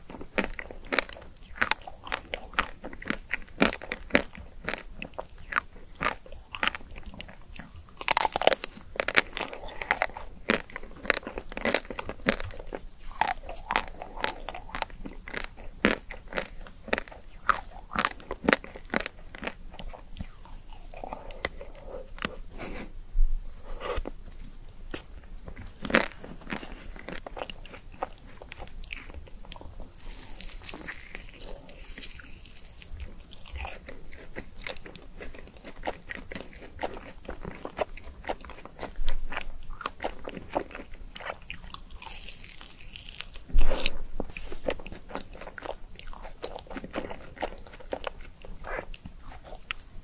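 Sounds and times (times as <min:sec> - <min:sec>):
crunchy chewing of ice cream bar: 0:00.0 - 0:22.9, 0:23.5 - 0:50.0.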